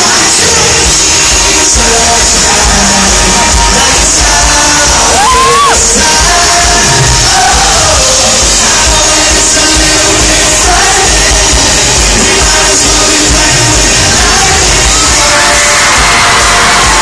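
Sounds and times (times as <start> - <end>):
audience yelling and screaming: 0.0 - 17.0
live pop band music: 0.0 - 17.0.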